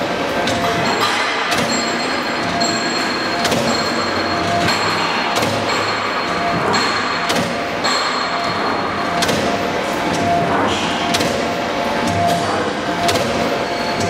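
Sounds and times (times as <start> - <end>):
machine whine and hum: 0.0 - 14.0.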